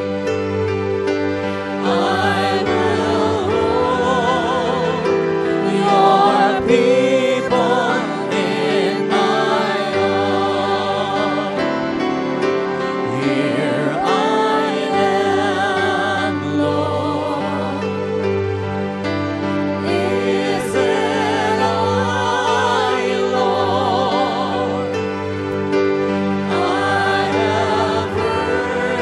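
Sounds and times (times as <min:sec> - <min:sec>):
gospel worship song: 0:00.0 - 0:29.0.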